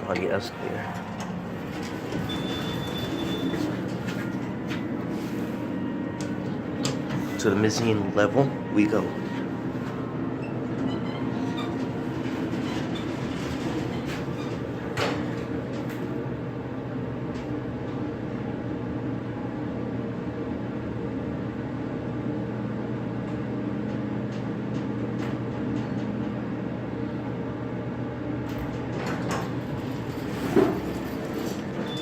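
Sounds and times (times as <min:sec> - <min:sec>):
escalator mechanical hum: 0:00.0 - 0:32.0.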